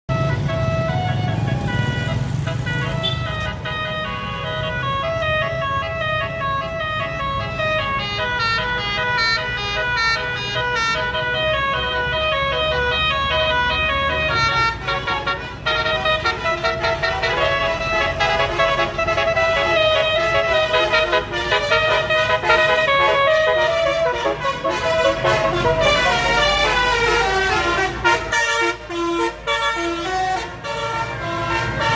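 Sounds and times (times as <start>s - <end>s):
bus engine running: 0.1s - 31.9s
multi-tone air horn tune: 0.1s - 31.9s.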